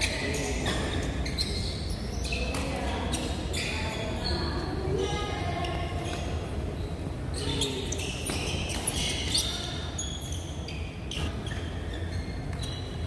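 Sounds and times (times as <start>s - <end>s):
shoes squeaking on court: 0.0s - 4.8s, 5.6s - 13.0s.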